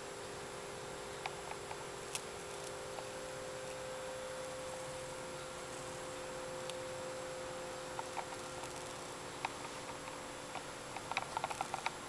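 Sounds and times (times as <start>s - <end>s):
constant hiss: 0.0s - 12.0s
steady hum: 0.0s - 12.0s.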